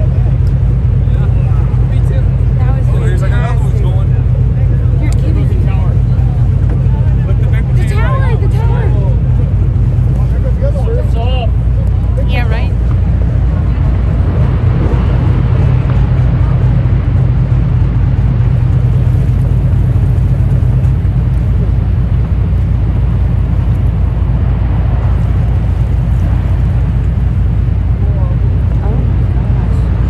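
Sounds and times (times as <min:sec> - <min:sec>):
boat engine drone: 0:00.0 - 0:30.0
faint voices: 0:00.0 - 0:30.0.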